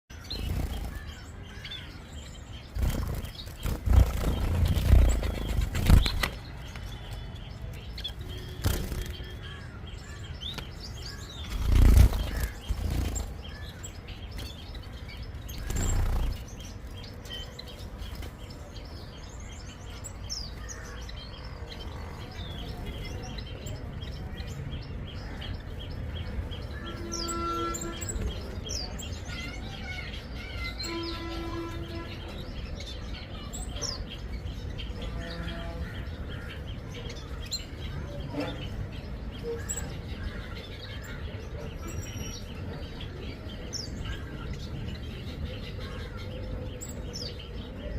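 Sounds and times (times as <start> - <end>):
zebra finches chirping: 0.1 - 47.9.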